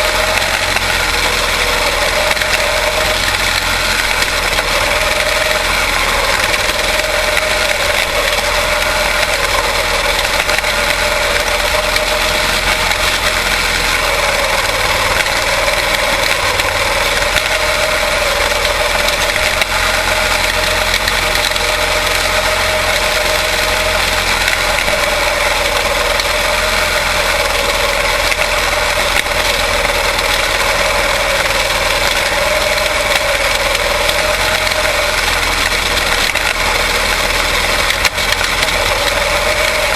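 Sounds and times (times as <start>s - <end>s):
race car engines running: 0.0s - 39.9s.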